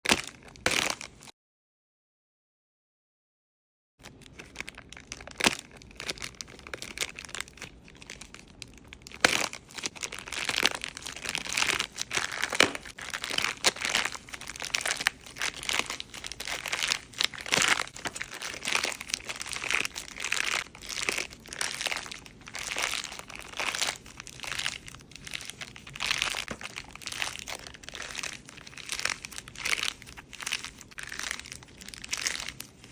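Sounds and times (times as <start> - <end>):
squishy toy crinkling when squeezed: 4.0 - 32.9.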